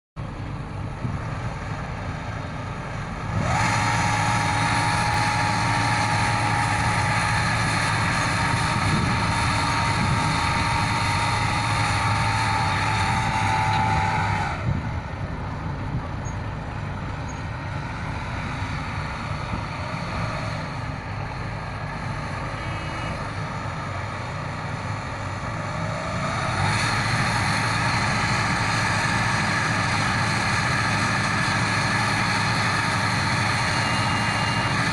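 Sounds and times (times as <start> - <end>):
diesel engine revving: 0.2 - 34.9
steady whine: 0.2 - 34.9.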